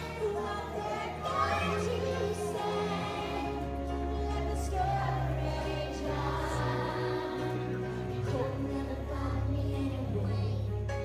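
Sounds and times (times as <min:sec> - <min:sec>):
young children singing: 0:00.0 - 0:10.8.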